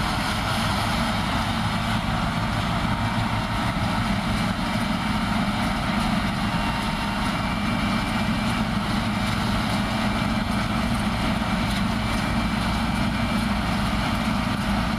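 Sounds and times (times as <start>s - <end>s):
combine harvester drone: 0.0s - 14.9s.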